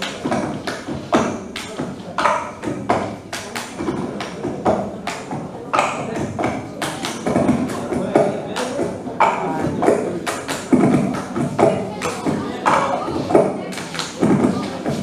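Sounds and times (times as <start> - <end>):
drum and cymbal hits: 0.0 - 15.0.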